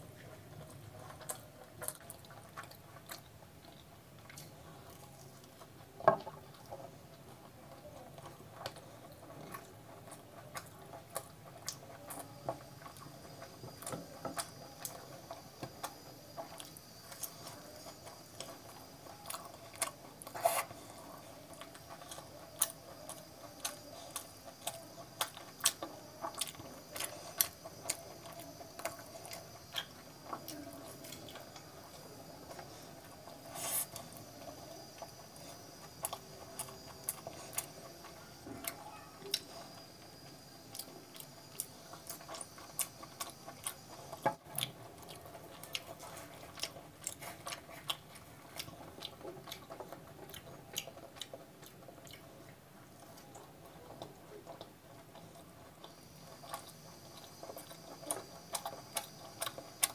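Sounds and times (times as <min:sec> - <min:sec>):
close chewing and mouth sounds: 0:00.0 - 0:59.9.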